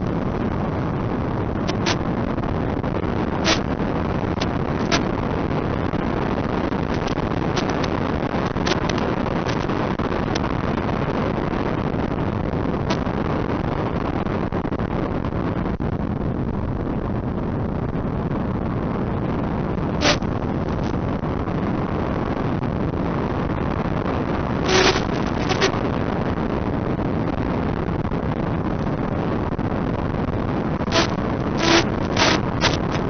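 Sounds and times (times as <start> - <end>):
rushing wind: 0.0 - 33.0.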